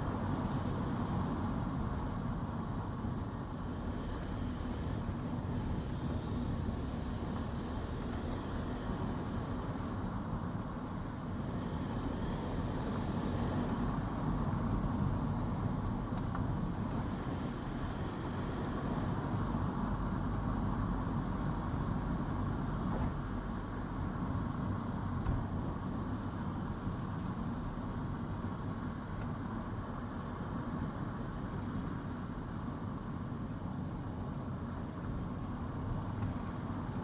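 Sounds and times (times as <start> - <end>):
car driving on road: 0.0 - 37.0.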